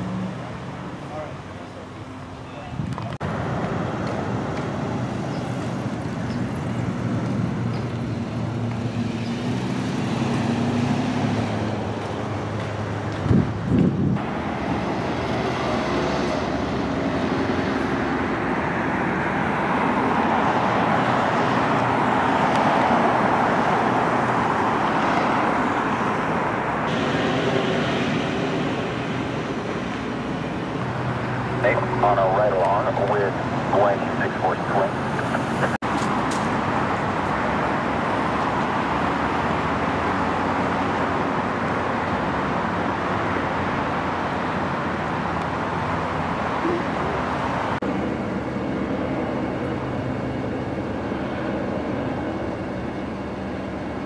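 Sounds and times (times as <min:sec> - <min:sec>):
low engine hum: 0:00.0 - 0:54.0
vehicle passing: 0:03.2 - 0:53.4.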